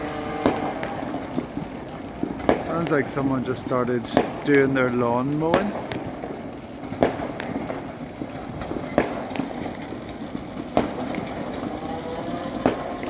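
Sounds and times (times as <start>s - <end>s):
background fireworks crackle: 0.0s - 13.0s
distant firework bangs: 0.0s - 13.0s
small firework cracks: 0.0s - 13.0s.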